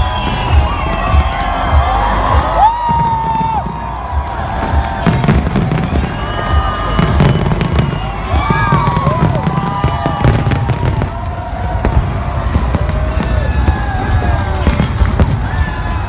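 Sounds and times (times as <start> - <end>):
crowd cheering and whooping: 0.0 - 16.0
fireworks banging: 0.0 - 16.0.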